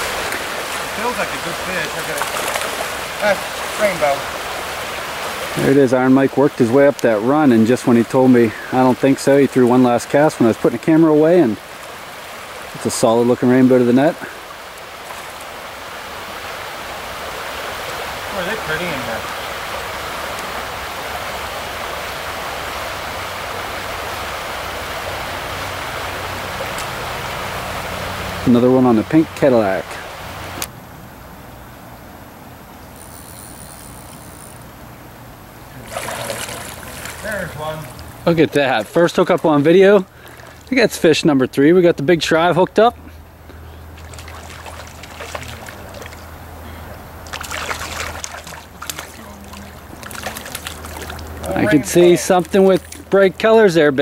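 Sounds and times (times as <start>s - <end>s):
water splashing: 0.0s - 30.6s, 35.7s - 41.4s, 43.6s - 54.0s
stream rushing over shallows: 0.0s - 30.7s, 35.8s - 54.0s.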